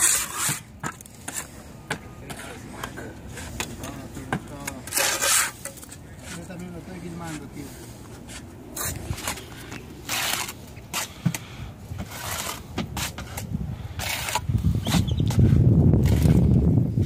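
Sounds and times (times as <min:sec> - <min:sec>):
trowel scraping mortar: 0:00.0 - 0:01.6, 0:02.2 - 0:16.7.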